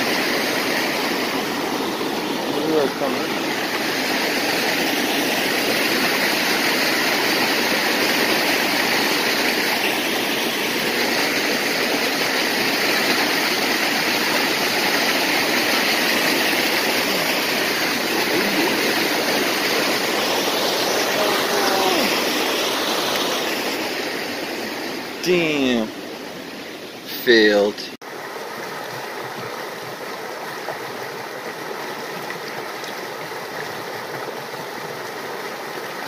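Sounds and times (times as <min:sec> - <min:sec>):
creek rushing over rocks: 0:00.0 - 0:36.0.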